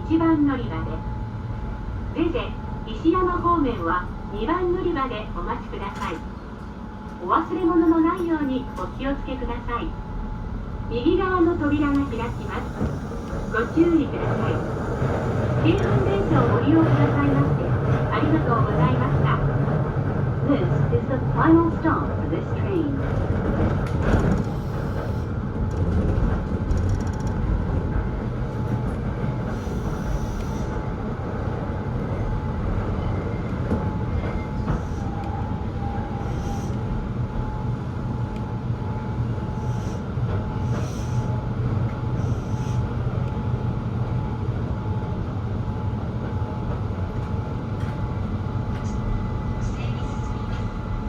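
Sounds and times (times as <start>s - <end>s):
electric train rumbling on rails: 0.0s - 51.0s.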